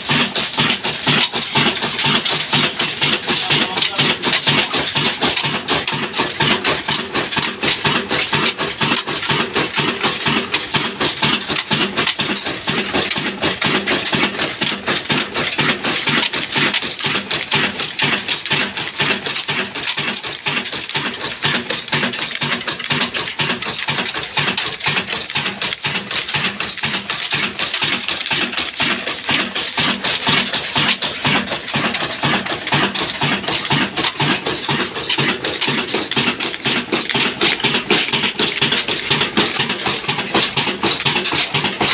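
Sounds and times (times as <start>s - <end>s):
diesel engine clattering: 0.0s - 41.9s.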